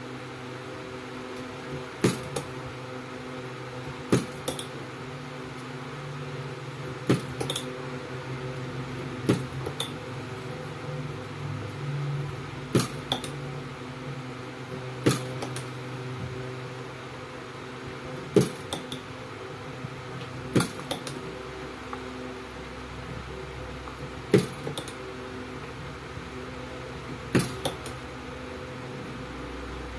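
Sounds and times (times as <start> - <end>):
steady hum: 0.0 - 29.9.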